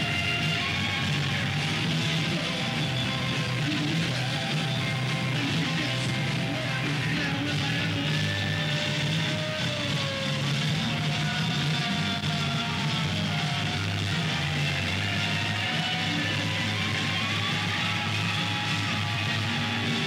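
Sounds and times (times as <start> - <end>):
bass guitar: 0.0 - 20.0
drums: 0.0 - 20.0
electric guitar: 0.0 - 20.0.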